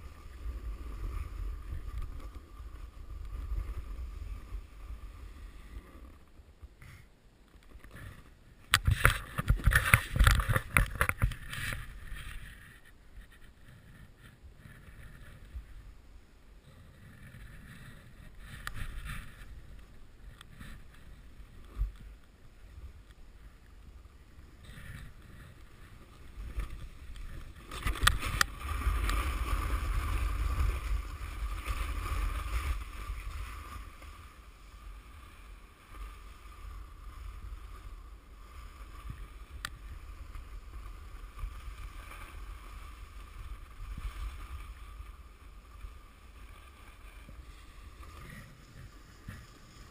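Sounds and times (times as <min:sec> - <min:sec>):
snowboard carving over snow: 0:00.0 - 0:49.9.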